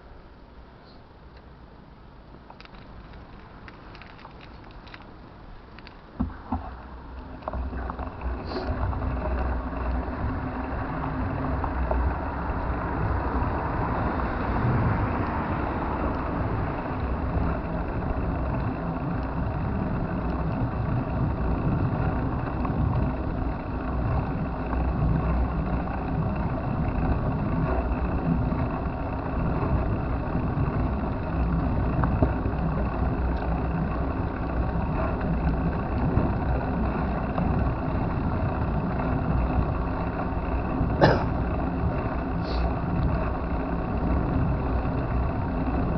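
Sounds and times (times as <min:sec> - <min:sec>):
wind and road noise rumble: 0:00.0 - 0:45.9.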